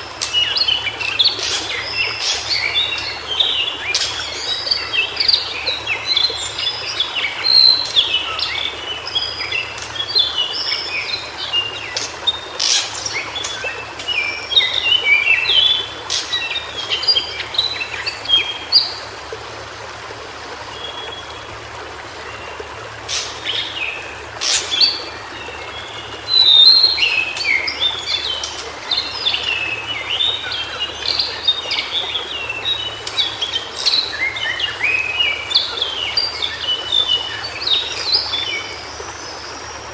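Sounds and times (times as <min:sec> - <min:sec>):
bird warbling song: 0:00.0 - 0:19.0, 0:22.2 - 0:39.9
background hiss: 0:00.0 - 0:19.6, 0:22.4 - 0:36.6.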